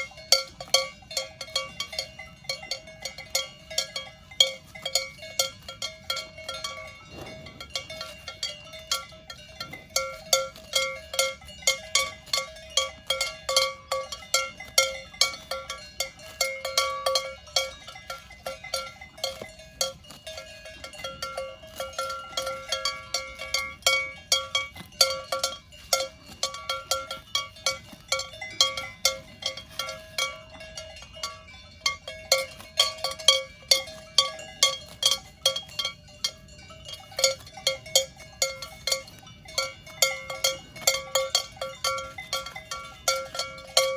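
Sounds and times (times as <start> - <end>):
cowbells clanking: 0.0 - 43.9.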